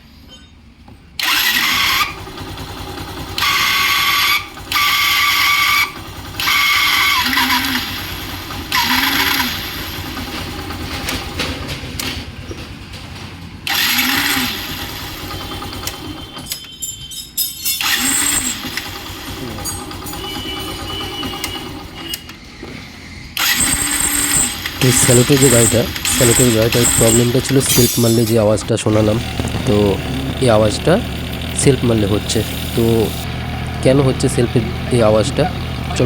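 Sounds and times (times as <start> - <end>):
motorcycle engine running: 1.2 - 16.5, 17.8 - 22.2, 23.4 - 36.0
motorcycle starter grinding whine: 1.2 - 36.0.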